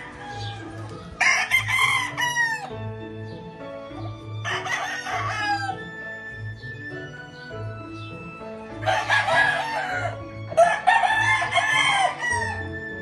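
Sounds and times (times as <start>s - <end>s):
background music with steady beat: 0.0s - 13.0s
roosters crowing: 0.0s - 13.0s.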